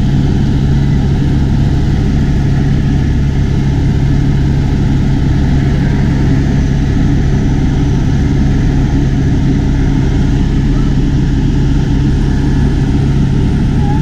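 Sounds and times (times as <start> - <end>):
helicopter engine and rotors: 0.0 - 14.0.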